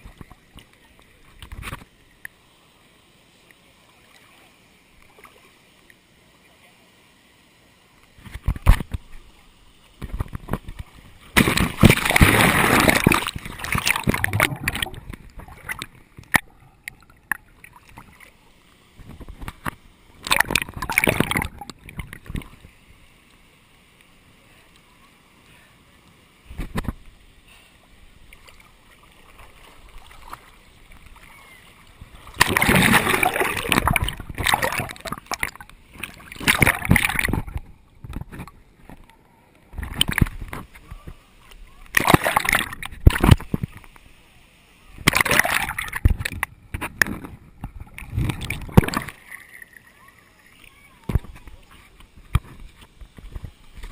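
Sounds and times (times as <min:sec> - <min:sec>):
water splashing: 0:08.1 - 0:53.9.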